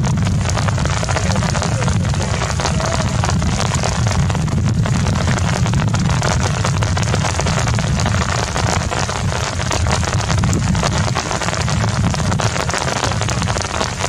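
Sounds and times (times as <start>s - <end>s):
heavy rain falling: 0.0s - 14.0s
wind buffeting microphone: 0.0s - 14.0s.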